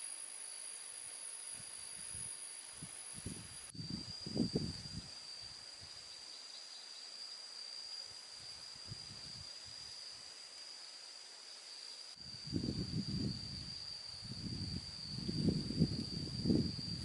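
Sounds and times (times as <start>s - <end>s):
insects droning: 0.0s - 17.0s
light hiss: 0.0s - 17.0s.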